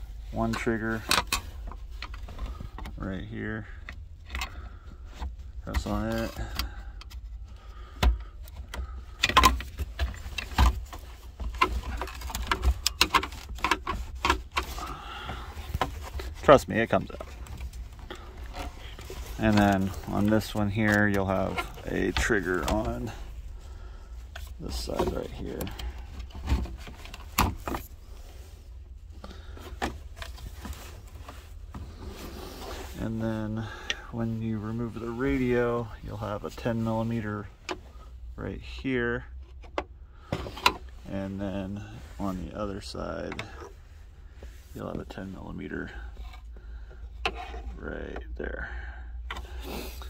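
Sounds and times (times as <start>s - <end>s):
steady low rumble: 0.0s - 50.0s.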